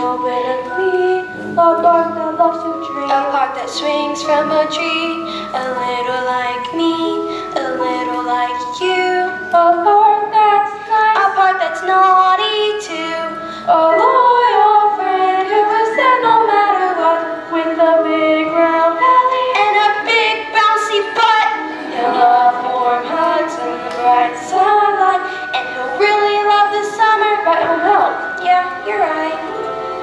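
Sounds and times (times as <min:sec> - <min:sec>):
girl singing: 0:00.0 - 0:30.0.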